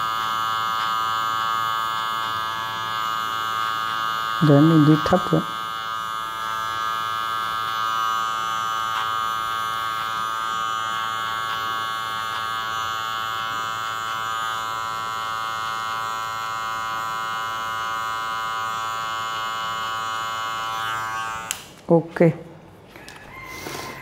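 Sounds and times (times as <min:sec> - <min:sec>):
electric hair clipper buzzing: 0:00.0 - 0:22.0, 0:23.1 - 0:24.0.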